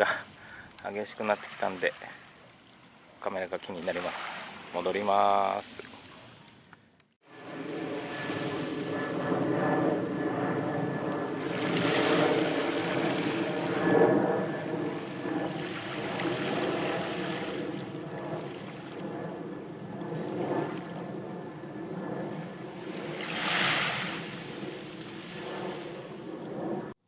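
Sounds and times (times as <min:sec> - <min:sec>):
sea surf washing ashore: 0:00.0 - 0:02.4, 0:03.2 - 0:06.6, 0:07.3 - 0:26.9
faint steady drone: 0:05.3 - 0:27.0.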